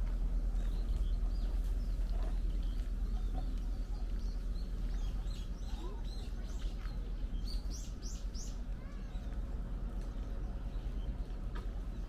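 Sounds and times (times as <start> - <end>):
steady low rumble: 0.0 - 12.0
small birds chirping: 0.4 - 12.0.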